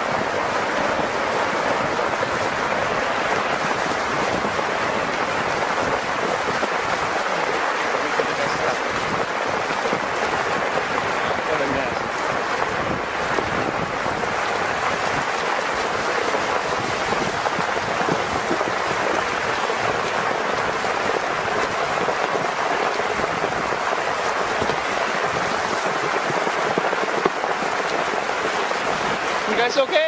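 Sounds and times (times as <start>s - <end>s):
water rushing: 0.0s - 30.0s.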